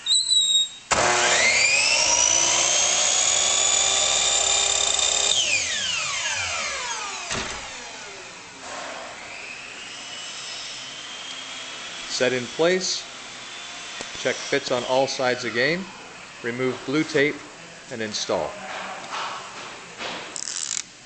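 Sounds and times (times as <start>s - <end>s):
miter saw whining: 0.1s - 17.3s.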